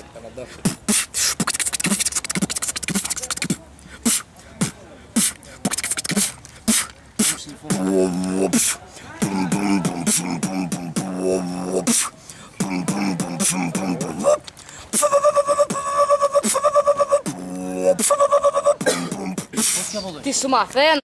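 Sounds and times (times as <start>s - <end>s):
man beatboxing: 0.4s - 20.2s.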